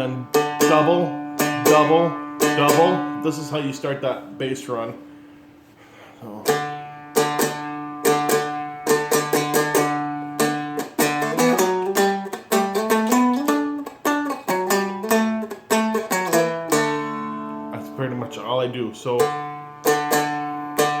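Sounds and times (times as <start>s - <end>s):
plucked string instrument notes: 0.0s - 5.4s, 6.2s - 21.0s.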